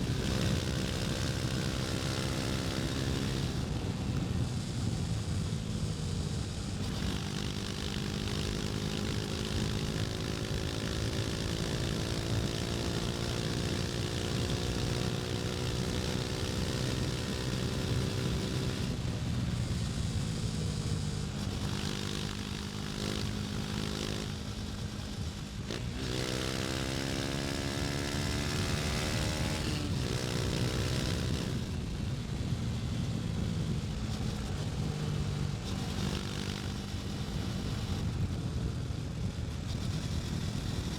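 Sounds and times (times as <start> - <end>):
motorcycle engine accelerating: 0.0 - 40.9
wind noise: 0.0 - 40.9.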